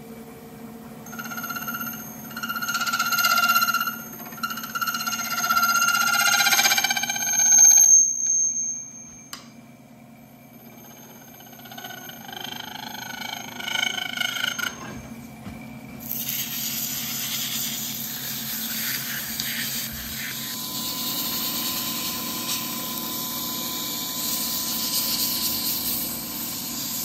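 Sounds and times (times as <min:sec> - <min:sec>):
brass ringing on a lathe: 0:01.0 - 0:15.2, 0:16.1 - 0:27.0
abrasive rubbing on spinning brass: 0:01.1 - 0:09.2, 0:10.4 - 0:14.9, 0:16.0 - 0:27.0.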